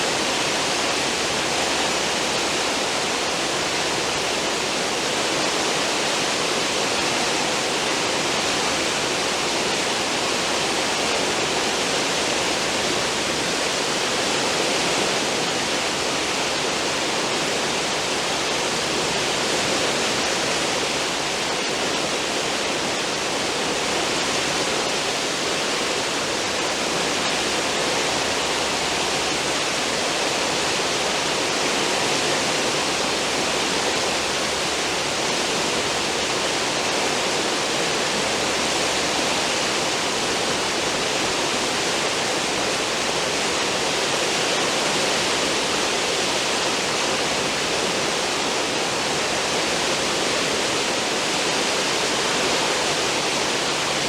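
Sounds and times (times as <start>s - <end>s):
churning wake water rushing: 0.0s - 54.0s.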